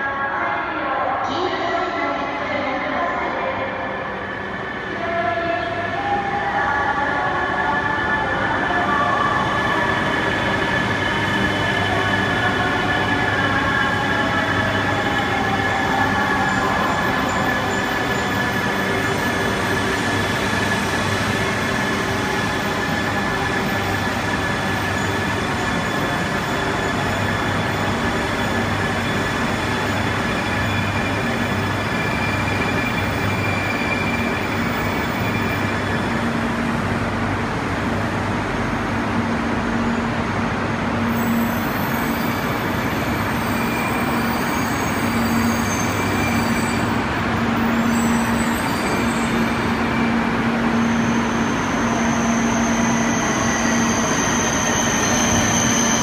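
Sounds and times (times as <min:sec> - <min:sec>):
train high whine pulling in: 0:03.2 - 0:56.0.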